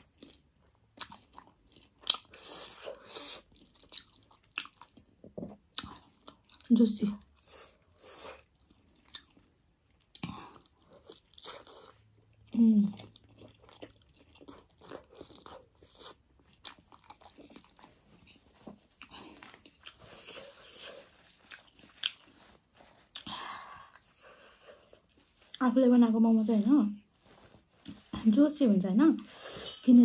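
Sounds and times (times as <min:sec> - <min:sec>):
close chewing and mouth smacks: 0:00.0 - 0:25.8.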